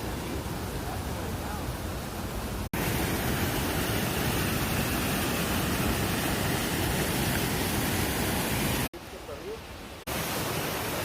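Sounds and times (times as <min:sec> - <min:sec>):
water rushing over cascade: 0:00.0 - 0:11.0.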